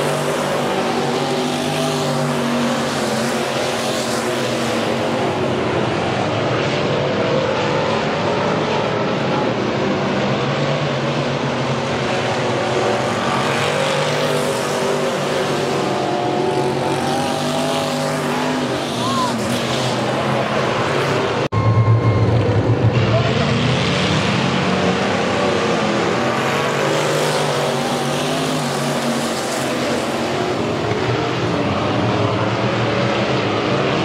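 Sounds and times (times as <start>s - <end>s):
cars passing close by: 0.0s - 34.0s
race car engines running: 0.0s - 34.0s.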